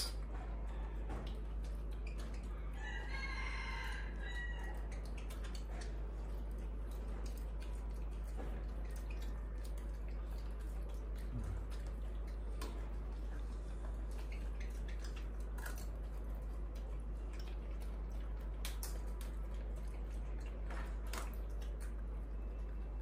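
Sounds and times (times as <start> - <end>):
steady low hum: 4.0 - 23.0.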